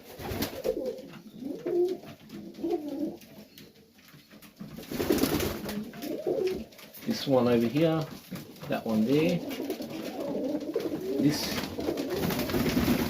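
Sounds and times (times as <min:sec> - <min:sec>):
pigeons cooing: 0:00.0 - 0:04.0, 0:04.8 - 0:07.0, 0:08.4 - 0:13.0.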